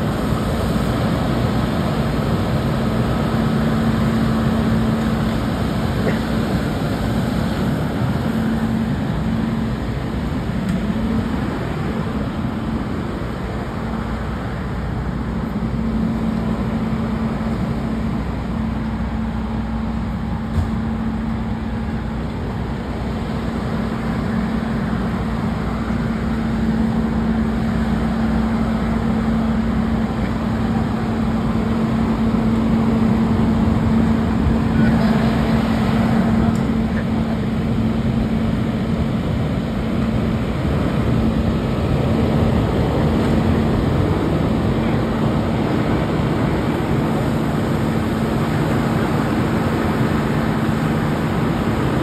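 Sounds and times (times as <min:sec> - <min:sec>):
diesel engine rumbling: 0:00.0 - 0:52.0.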